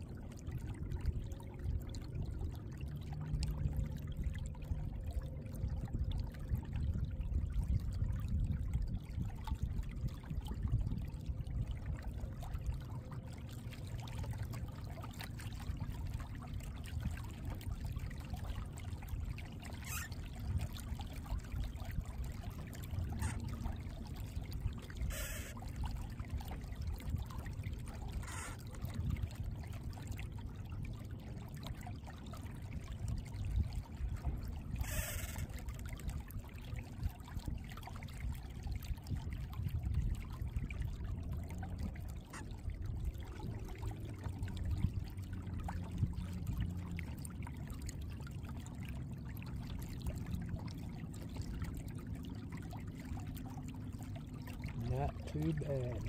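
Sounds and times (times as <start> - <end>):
low motor rumble: 0.0 - 56.0
water lapping against kayak hull: 0.0 - 56.0.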